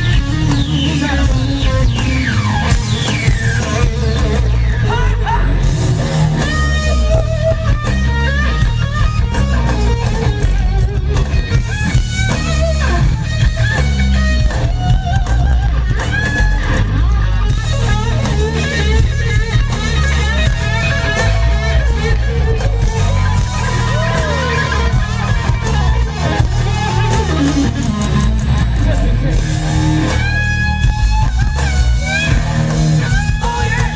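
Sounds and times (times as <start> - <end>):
electric guitar bent notes: 0.0 - 33.9
live rock band playing: 0.0 - 33.9.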